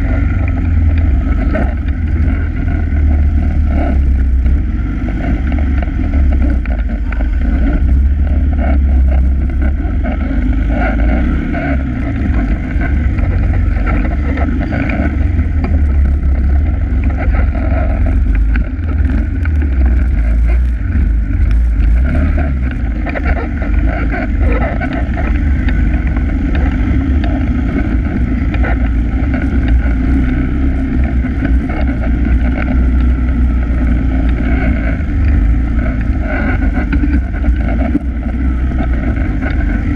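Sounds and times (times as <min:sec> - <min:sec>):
atv engine running: 0:00.0 - 0:39.9
wind rumble on microphone: 0:00.0 - 0:39.9.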